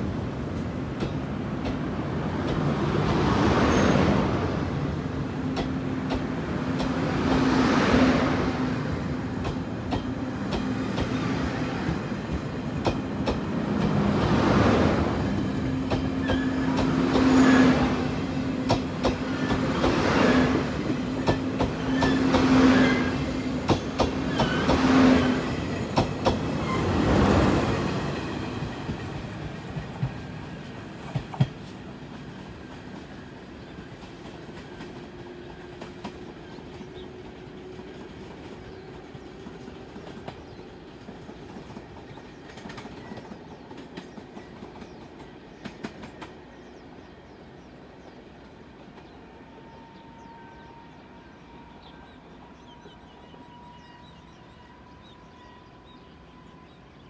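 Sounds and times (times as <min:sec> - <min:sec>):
steady train hum: 0:00.0 - 0:57.0.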